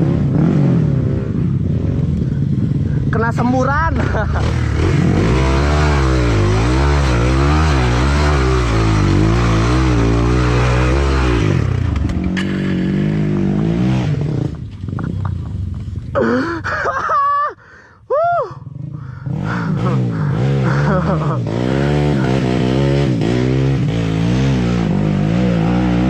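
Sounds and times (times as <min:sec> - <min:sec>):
motorcycle engine revving: 0:00.0 - 0:16.6, 0:18.6 - 0:26.0.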